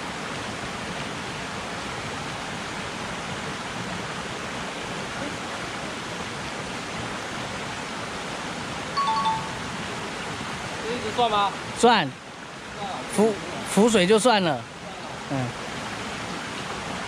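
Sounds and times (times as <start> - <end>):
stream flowing over stones: 0.0 - 17.0.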